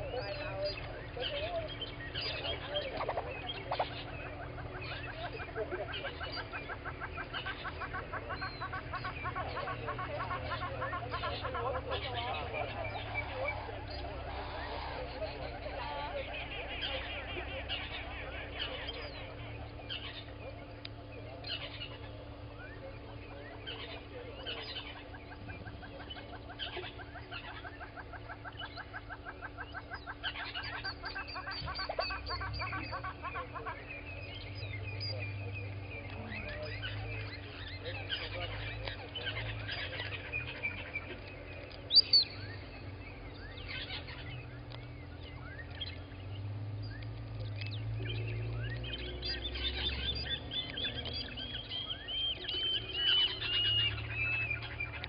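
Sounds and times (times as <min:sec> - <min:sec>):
birds calling: 0:00.0 - 0:55.0
steady low hum: 0:00.0 - 0:55.0.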